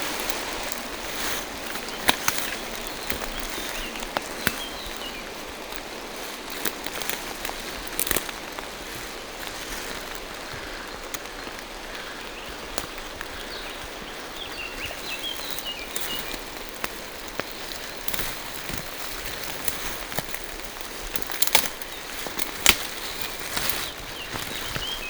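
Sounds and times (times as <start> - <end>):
steady rain in forest: 0.0 - 25.0
water drips and patters: 0.0 - 25.0.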